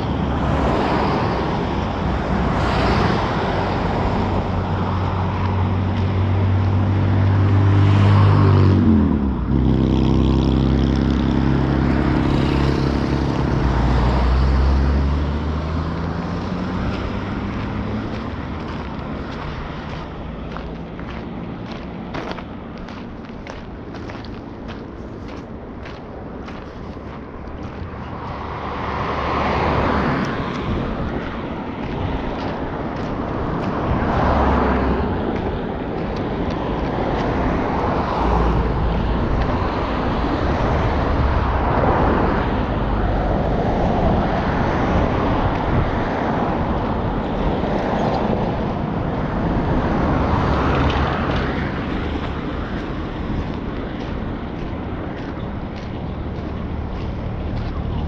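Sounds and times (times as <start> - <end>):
cars passing: 0.0 - 58.0
wind rumbling on microphone: 0.0 - 58.0.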